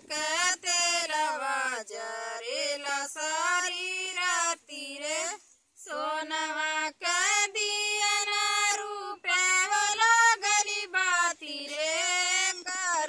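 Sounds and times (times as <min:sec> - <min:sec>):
women singing without instruments: 0:00.0 - 0:13.0.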